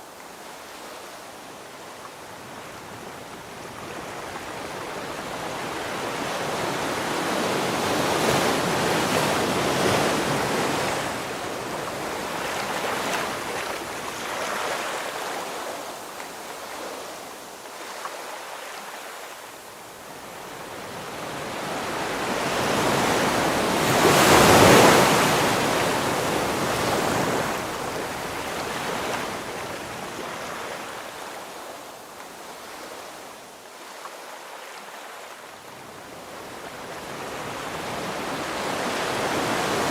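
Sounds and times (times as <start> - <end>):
ocean waves breaking on shore: 0.3 - 39.9.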